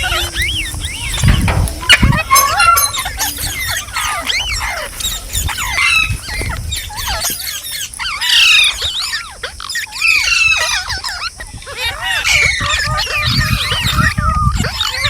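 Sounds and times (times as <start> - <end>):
parrots squawking and chirping: 0.0 - 15.0.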